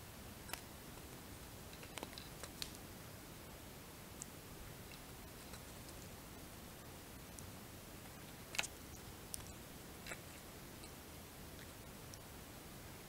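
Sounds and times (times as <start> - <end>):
quiet room hiss: 0.0 - 13.0.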